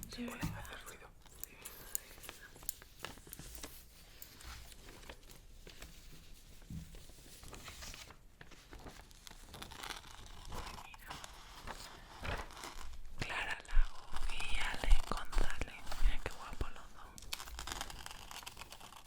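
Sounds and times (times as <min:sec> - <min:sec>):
paper crinkling and rustling: 0:00.2 - 0:19.0.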